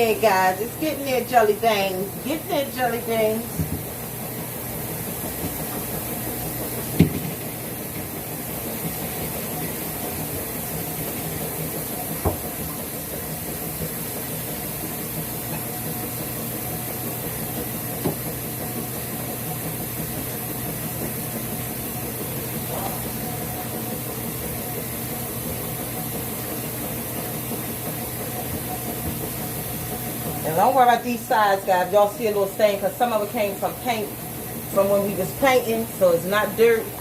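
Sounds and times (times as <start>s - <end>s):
background hum and hiss: 0.0s - 37.0s.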